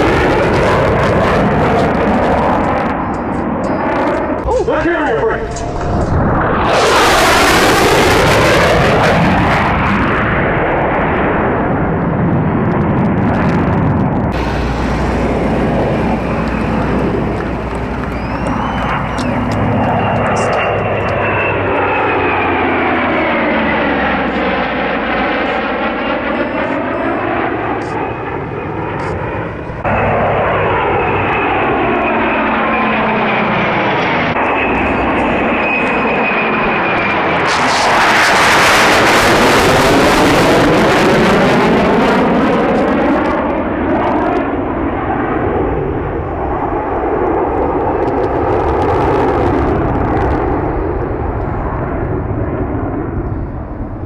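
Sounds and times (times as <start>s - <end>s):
jet engines roaring overhead: 0.0s - 54.0s.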